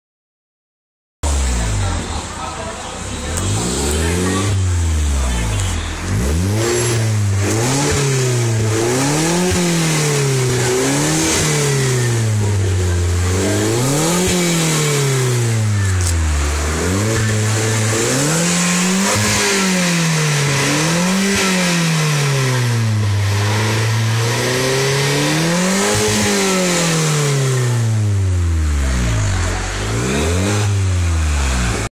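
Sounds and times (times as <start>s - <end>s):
car engine revving: 1.2s - 31.9s.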